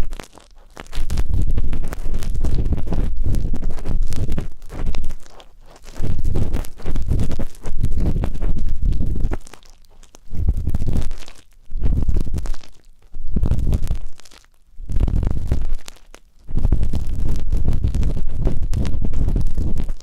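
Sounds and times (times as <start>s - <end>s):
ear pick scraping microphone: 0.0s - 14.2s, 14.9s - 20.0s.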